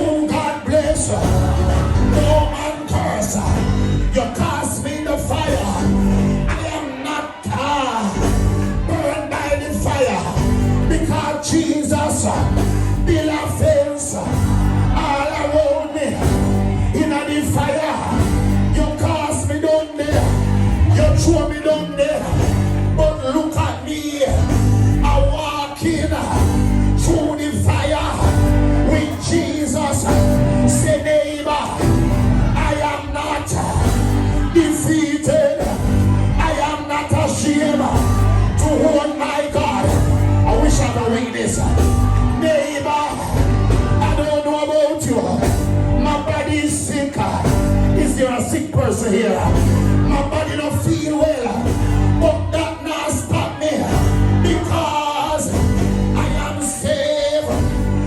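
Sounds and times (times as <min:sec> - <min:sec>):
live band playing praise music: 0:00.0 - 0:58.0
voices singing and shouting: 0:00.0 - 0:58.0.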